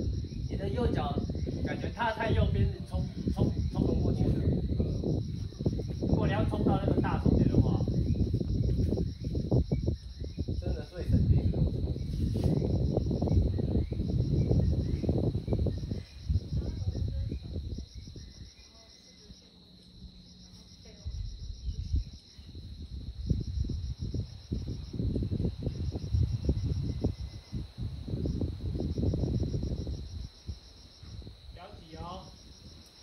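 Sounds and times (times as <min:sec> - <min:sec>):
low rumble on microphone: 0:00.0 - 0:18.6, 0:19.9 - 0:32.8
insects chirping in pulses: 0:00.0 - 0:33.0.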